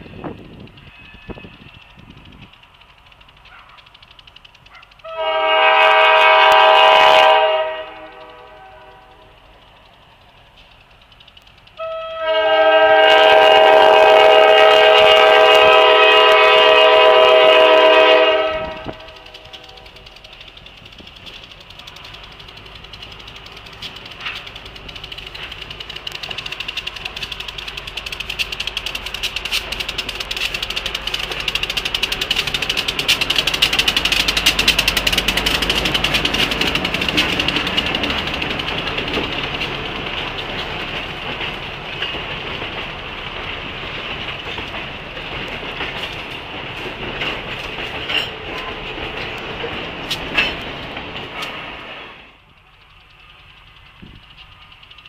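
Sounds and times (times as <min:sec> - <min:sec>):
locomotive rumble: 0:00.0 - 0:55.0
train wheels clicking over rail joints: 0:00.0 - 0:55.0.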